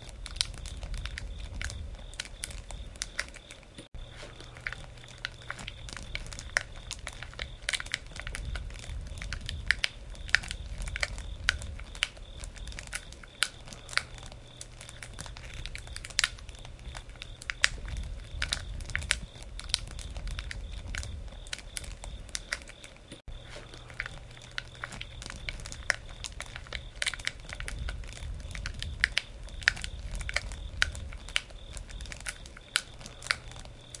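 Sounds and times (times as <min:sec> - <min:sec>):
campfire crackling and popping: 0:00.0 - 0:34.0
low rumble of burning fire: 0:00.0 - 0:34.0.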